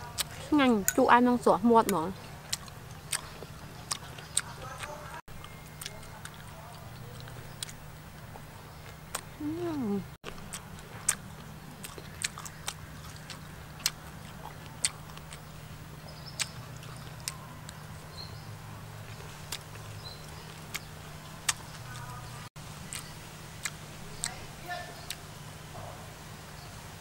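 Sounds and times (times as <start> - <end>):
person chewing: 0.0 - 1.0, 1.8 - 18.2, 19.0 - 24.4
steady low hum: 0.0 - 27.0.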